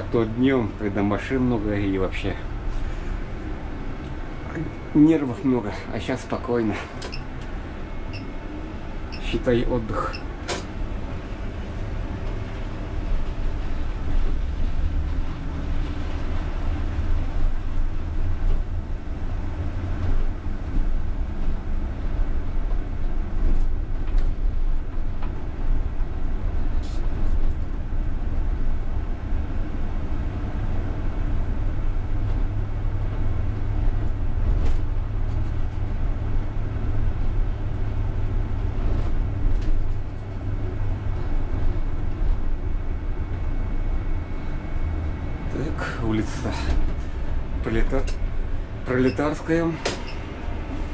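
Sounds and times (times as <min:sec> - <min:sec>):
trolleybus running gear rumble: 0:00.0 - 0:50.9.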